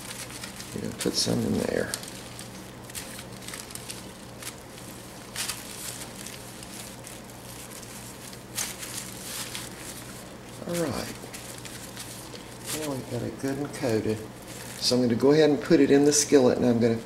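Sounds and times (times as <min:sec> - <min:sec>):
foil and gloves crinkling: 0:00.0 - 0:17.0
low steady hum: 0:00.0 - 0:17.0.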